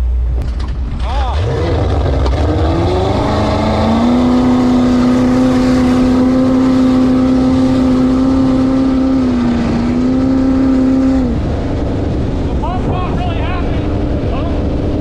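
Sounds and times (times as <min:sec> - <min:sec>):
water and wind rushing: 0:00.0 - 0:15.0
boat engine running hard: 0:01.2 - 0:15.0.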